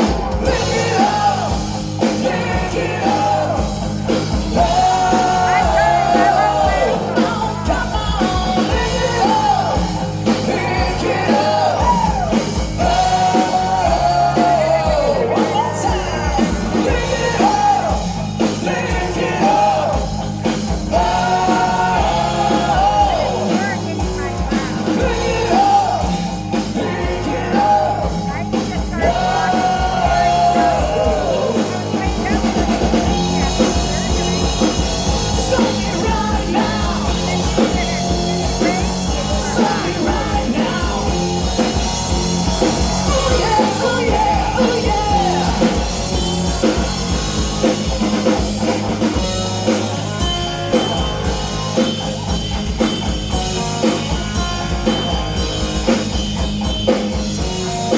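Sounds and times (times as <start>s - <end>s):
person singing: 0.0s - 56.7s
rock band playing: 0.0s - 57.9s.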